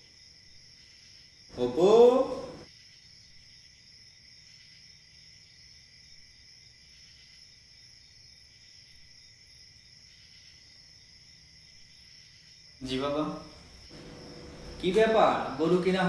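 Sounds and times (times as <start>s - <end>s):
faint high-pitched insect drone: 0.0s - 16.0s.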